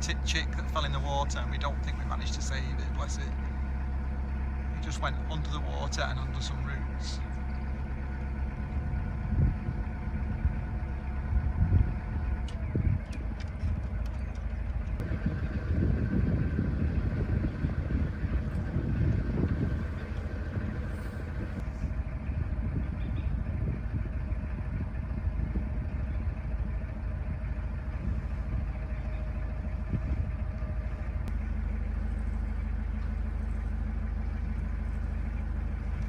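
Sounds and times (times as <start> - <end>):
boat diesel engine rumbling: 0.0 - 36.0.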